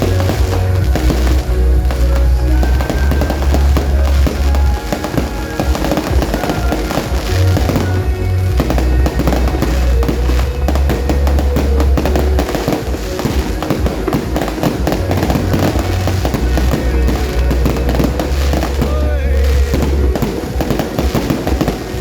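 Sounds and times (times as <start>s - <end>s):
fireworks bangs and crackles: 0.0s - 22.0s
loud music: 0.0s - 22.0s.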